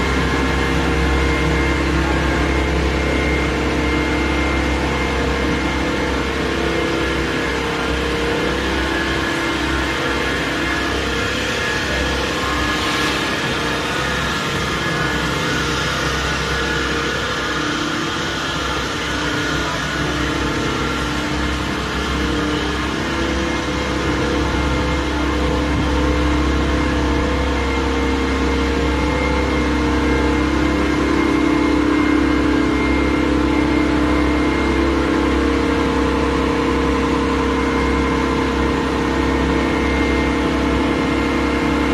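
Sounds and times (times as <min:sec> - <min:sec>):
machinery droning: 0:00.0 - 0:41.9.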